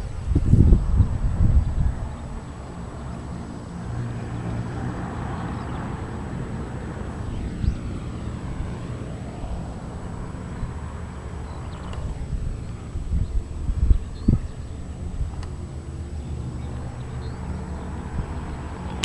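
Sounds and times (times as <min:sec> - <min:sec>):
airship engines humming: 0:00.0 - 0:19.0
propeller noise: 0:00.0 - 0:19.0.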